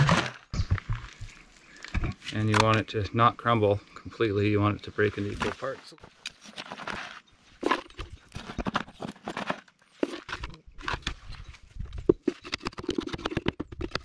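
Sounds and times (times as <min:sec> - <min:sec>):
earth dropped into wooden form: 0:00.0 - 0:03.0, 0:05.2 - 0:14.0.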